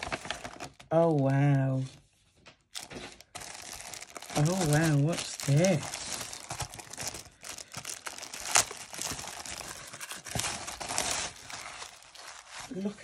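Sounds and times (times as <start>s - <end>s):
plastic wrapping crinkling: 0.0s - 1.8s, 2.6s - 13.0s.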